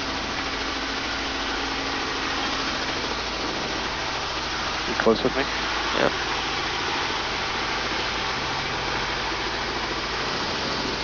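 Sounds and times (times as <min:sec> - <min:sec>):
helicopter engine and rotors: 0:00.0 - 0:11.0.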